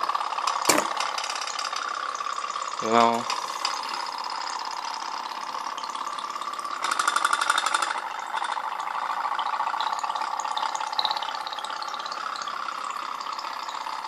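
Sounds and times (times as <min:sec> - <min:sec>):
pop-pop boat engine popping: 0:00.0 - 0:14.0.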